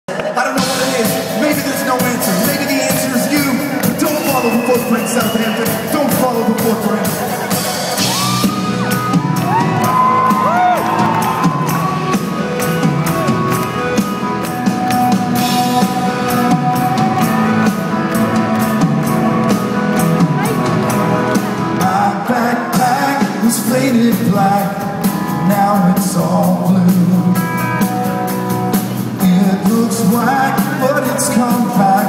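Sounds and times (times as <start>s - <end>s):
drum kit: 0.1s - 32.0s
electric guitar: 0.1s - 32.0s.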